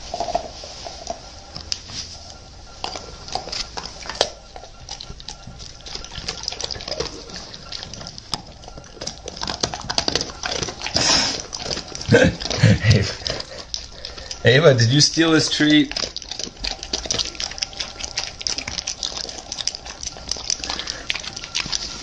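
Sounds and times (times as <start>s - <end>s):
dog licking and mouthing: 0.0s - 22.0s.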